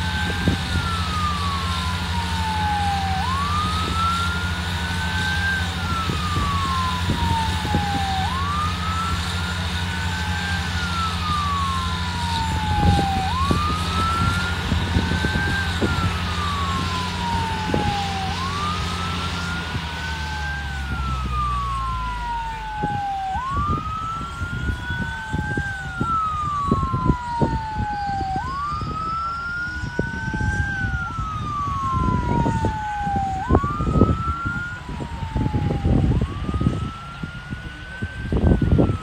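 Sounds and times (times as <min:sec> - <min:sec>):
emergency vehicle siren wailing: 0:00.0 - 0:39.0
low engine drone: 0:00.0 - 0:39.0
low rumbles: 0:00.0 - 0:39.0.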